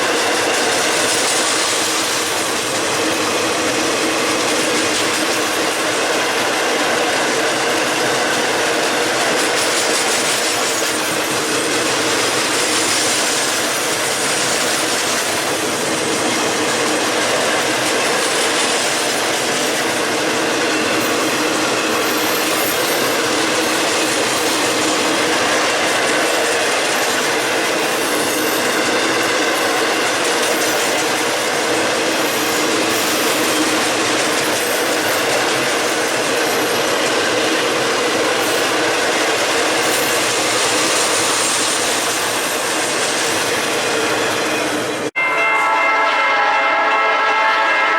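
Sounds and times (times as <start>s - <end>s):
train wheels clattering on track: 0.0s - 45.1s.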